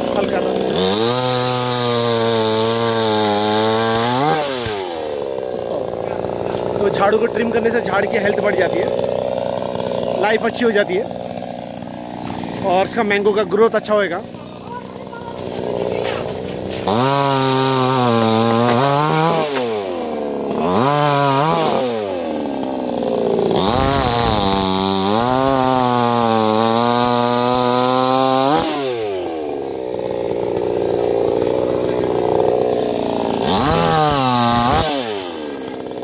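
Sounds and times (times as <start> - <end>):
chainsaw cutting branch: 0.0 - 36.0.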